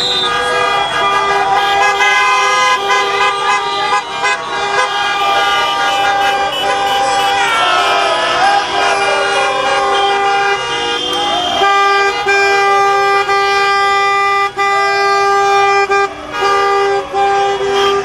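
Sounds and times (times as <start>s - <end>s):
car horns honking: 0.0s - 18.0s.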